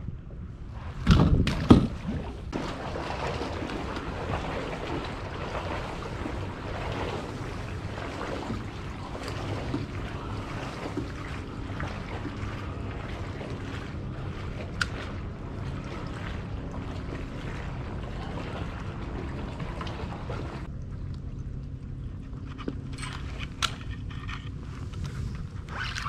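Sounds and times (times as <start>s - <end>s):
wind rumble on microphone: 0.0s - 26.0s
water lapping against hull: 0.2s - 26.0s.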